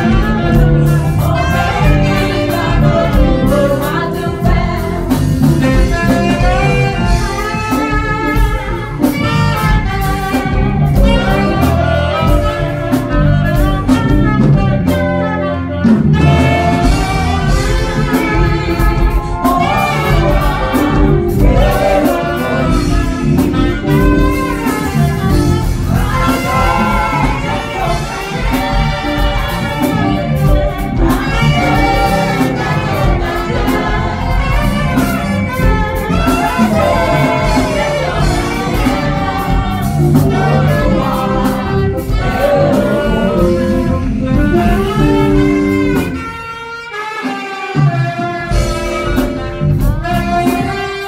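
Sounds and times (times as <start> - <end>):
backing band with steady beat: 0.0 - 51.0
saxophones playing jazzy tune: 0.0 - 51.0.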